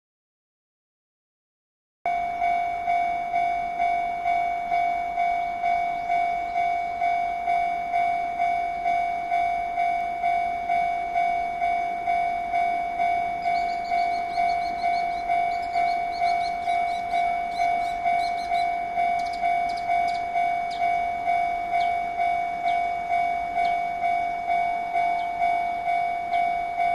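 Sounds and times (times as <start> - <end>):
level crossing warning bell: 2.1 - 26.9.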